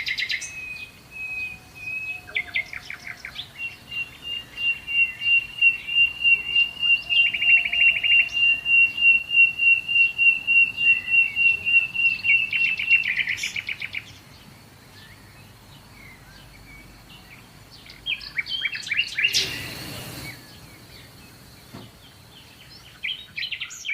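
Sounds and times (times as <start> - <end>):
birds singing: 0.0 - 23.9.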